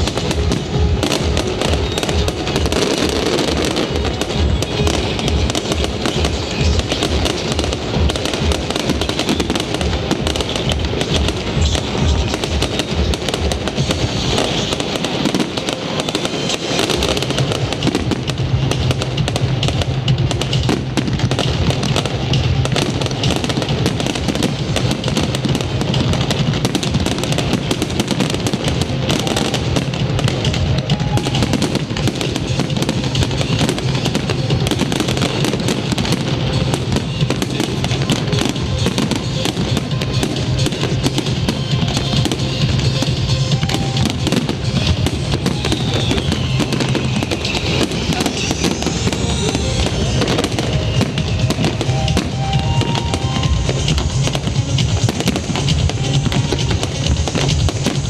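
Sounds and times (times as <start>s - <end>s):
fireworks crackling and banging: 0.0s - 58.0s
loud music: 0.0s - 58.0s.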